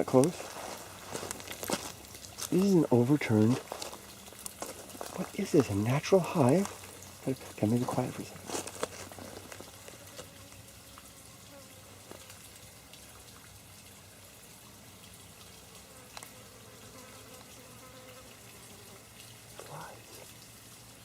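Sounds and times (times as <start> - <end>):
bees and flies buzzing: 0.0 - 13.3, 14.5 - 20.3.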